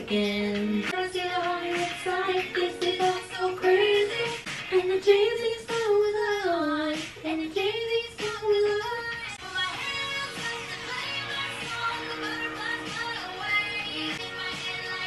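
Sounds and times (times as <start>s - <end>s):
young woman singing: 0.0s - 15.0s.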